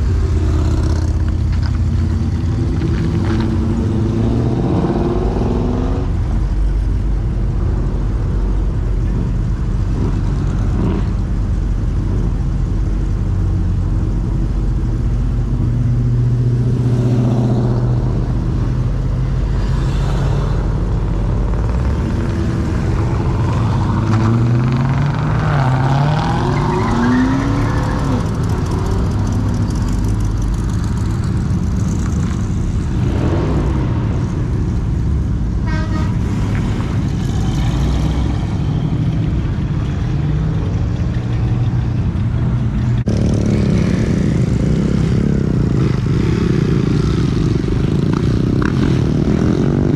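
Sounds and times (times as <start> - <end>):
car engines rumbling and accelerating: 0.0 - 49.9.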